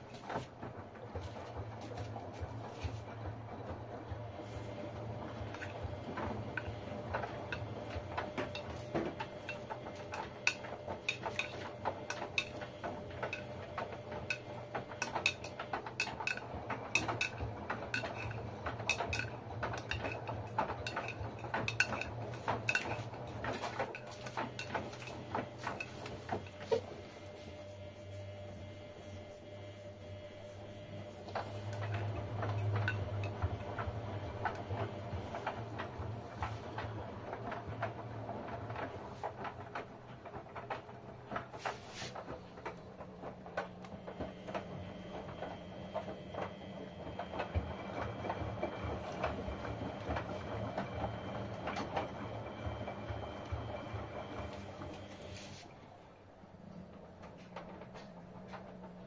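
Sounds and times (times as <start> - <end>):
laundry clicking in drum: 0.0 - 27.0, 31.0 - 55.3
washing machine motor hum: 0.0 - 59.0.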